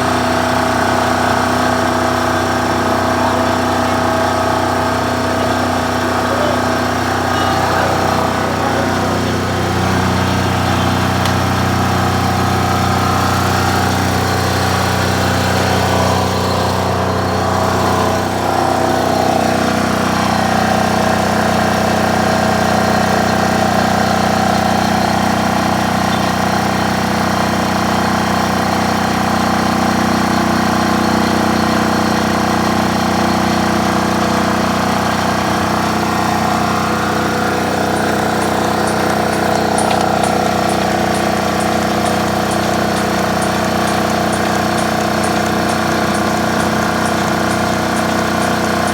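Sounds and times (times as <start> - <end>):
diesel generator running: 0.0 - 48.9.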